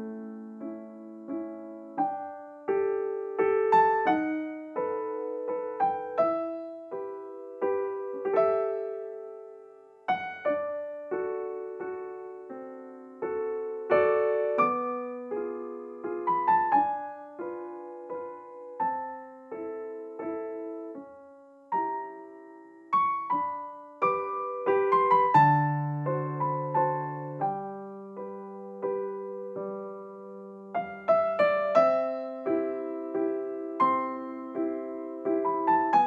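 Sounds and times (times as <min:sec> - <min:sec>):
slow solo piano: 0:00.0 - 0:36.0.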